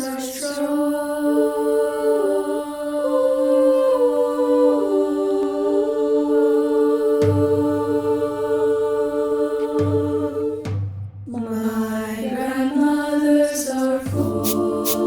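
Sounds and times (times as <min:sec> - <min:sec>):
girls' choir singing: 0:00.0 - 0:15.0.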